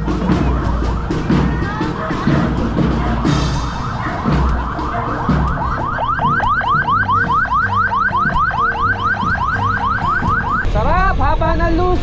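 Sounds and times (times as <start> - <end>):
electronic siren yelp: 0.6 - 10.7.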